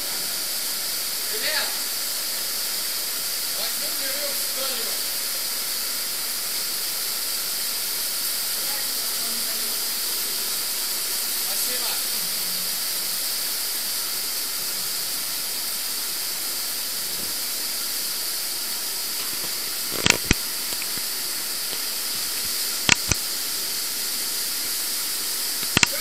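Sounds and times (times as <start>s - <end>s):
water rushing through tunnel: 0.0s - 26.0s.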